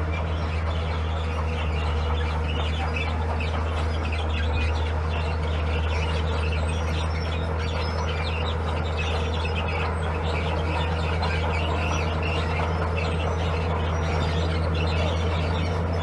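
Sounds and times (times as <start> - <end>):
birds chirping: 0.0 - 16.0
diesel engine running: 0.0 - 16.0.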